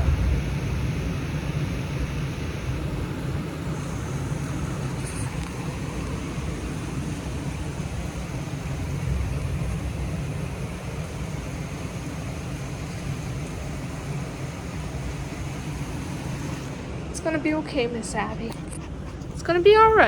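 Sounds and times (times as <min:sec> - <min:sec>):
heavy rain: 0:00.0 - 0:17.4
floodwater rushing: 0:00.0 - 0:18.2.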